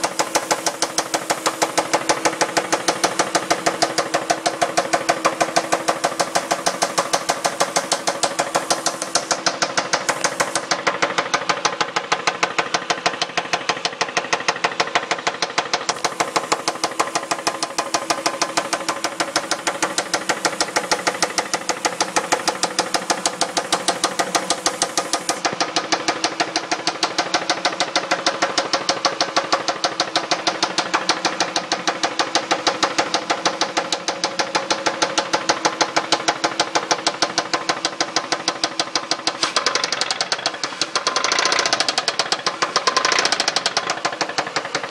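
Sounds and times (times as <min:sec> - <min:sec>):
car engine running: 0:00.0 - 0:44.9
fast even engine knock: 0:00.0 - 0:44.9.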